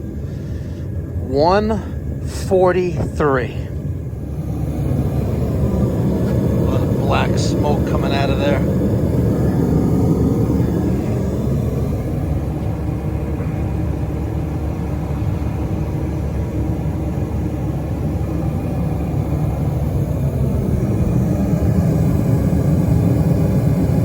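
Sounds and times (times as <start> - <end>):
gas burner flame rushing: 0.0 - 24.0.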